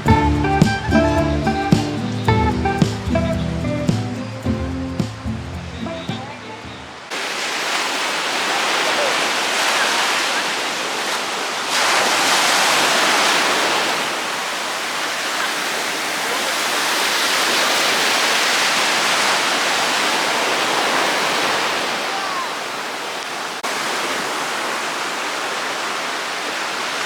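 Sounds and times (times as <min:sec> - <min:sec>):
surf breaking on beach: 0:03.9 - 0:27.0.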